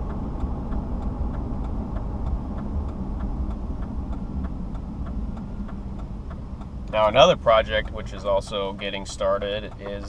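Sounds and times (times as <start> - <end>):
car engine and road noise: 0.0 - 10.0
turn signal ticking: 0.0 - 10.0.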